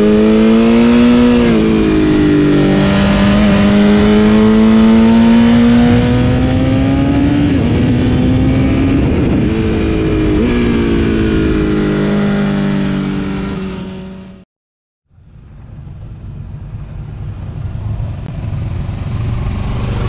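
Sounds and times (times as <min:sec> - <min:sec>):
motorcycle engine accelerating: 0:00.0 - 0:14.4, 0:15.2 - 0:20.0.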